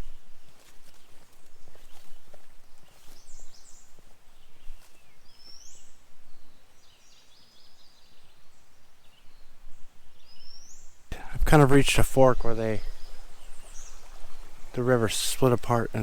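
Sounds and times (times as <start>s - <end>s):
footsteps on trail: 0.0s - 8.1s, 11.2s - 16.0s
songbirds chirping: 0.0s - 16.0s.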